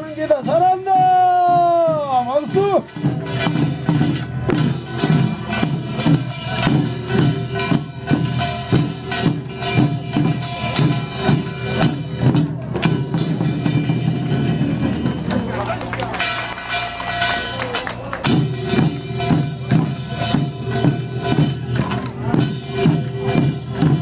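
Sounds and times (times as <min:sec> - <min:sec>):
percussion band drums and gongs: 0:00.0 - 0:24.0.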